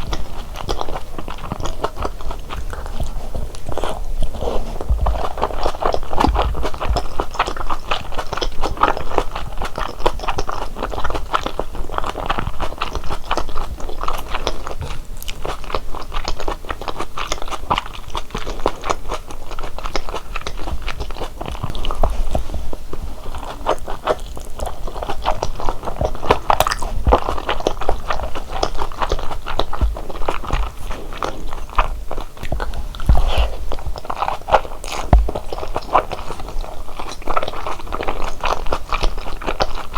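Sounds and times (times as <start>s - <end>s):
biting and chewing dumplings: 0.0s - 39.9s.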